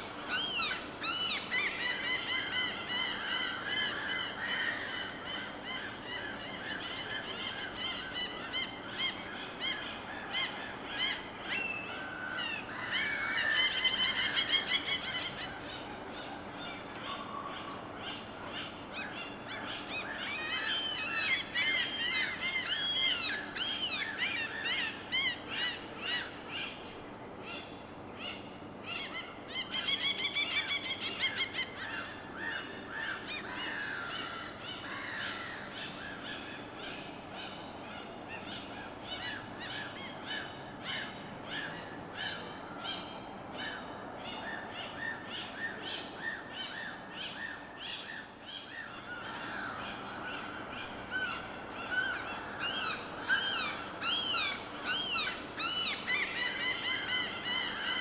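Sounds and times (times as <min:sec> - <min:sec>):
birds calling and chirping: 0:00.0 - 0:58.0.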